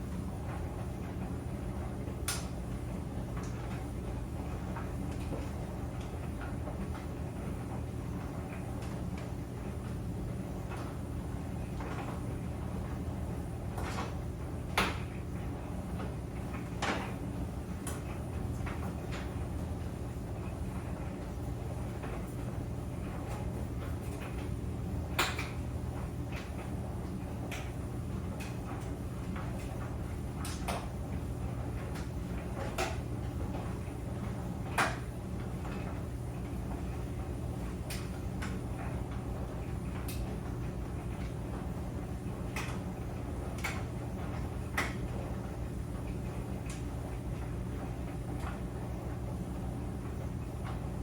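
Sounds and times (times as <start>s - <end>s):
clothes dryer humming: 0.0s - 51.0s.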